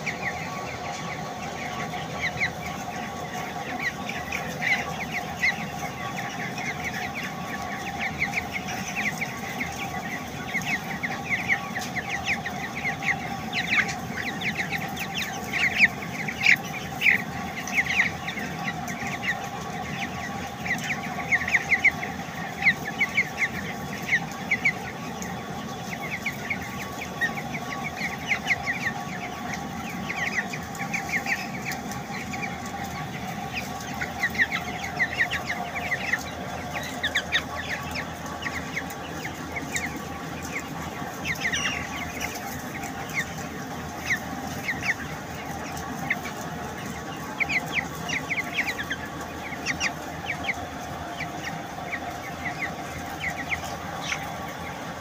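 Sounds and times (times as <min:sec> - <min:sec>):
chicks peeping and chirping: 0:00.0 - 0:55.0.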